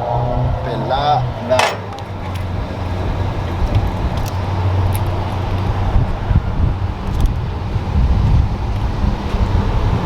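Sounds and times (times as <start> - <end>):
wind rumbling on microphone: 1.9 - 10.0.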